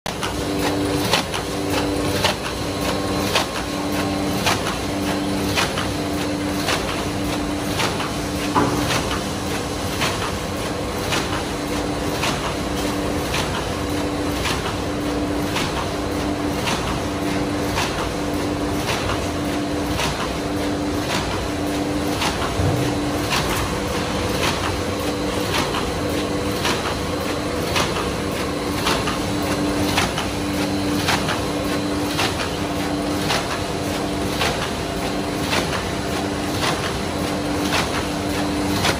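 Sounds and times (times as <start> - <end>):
machine mechanical clatter: 0.1 - 38.9.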